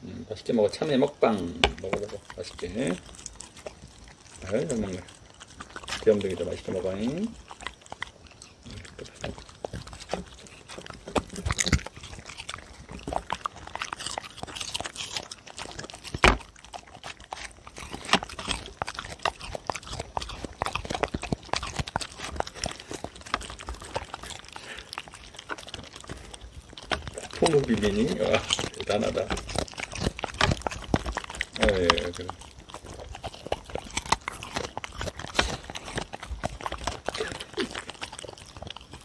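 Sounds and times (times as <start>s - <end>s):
dogs chewing melon: 0.0s - 39.0s.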